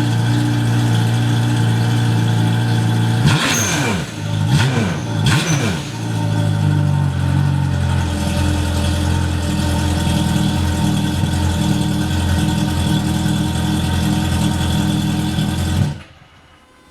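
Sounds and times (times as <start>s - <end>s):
watercraft engine idling: 0.0s - 15.9s.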